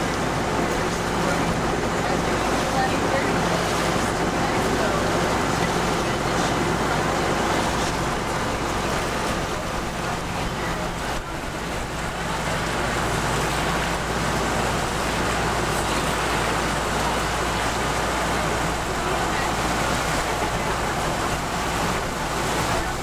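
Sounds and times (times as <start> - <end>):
boat engine hum: 0.0 - 23.0
water rushing along hull: 0.0 - 23.0.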